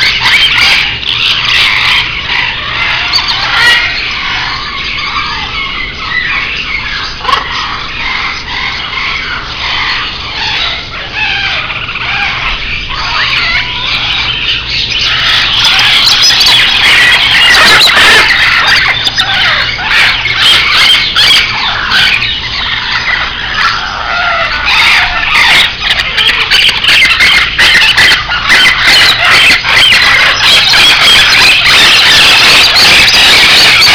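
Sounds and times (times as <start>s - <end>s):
parrots and small birds calling: 0.0s - 33.9s.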